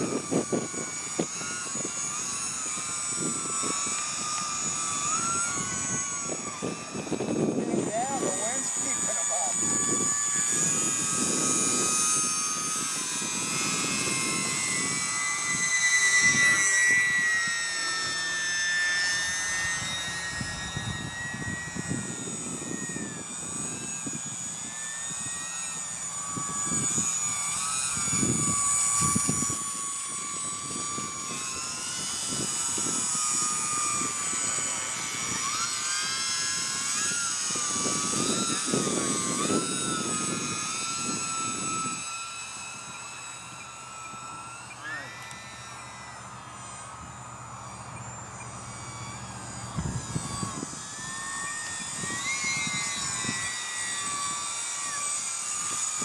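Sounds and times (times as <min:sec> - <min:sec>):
model plane propellers whining: 0:00.0 - 0:56.0.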